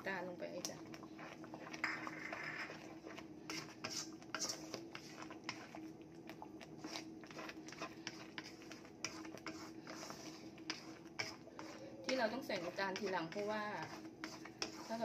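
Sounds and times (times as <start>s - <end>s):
faint steady hum: 0.0s - 15.0s
wooden spatula scraping wok: 0.0s - 15.0s.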